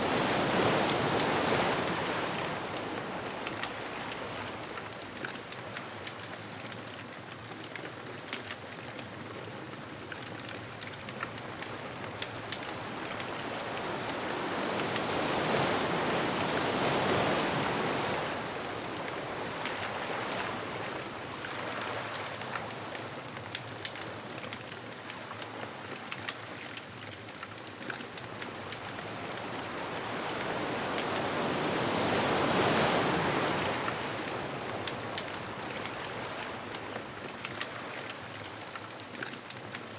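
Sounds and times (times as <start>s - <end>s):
ocean waves breaking on beach: 0.0s - 39.9s
bonfire crackling: 0.1s - 32.3s, 32.9s - 39.9s.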